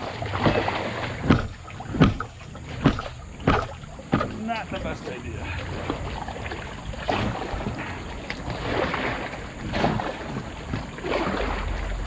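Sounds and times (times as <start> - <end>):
paddle strokes splashing in water: 0.0 - 12.0.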